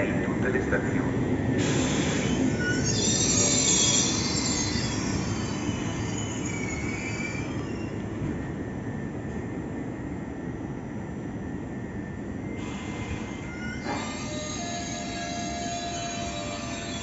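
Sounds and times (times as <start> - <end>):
train wheels squealing on rails: 1.4 - 9.8, 10.4 - 17.0.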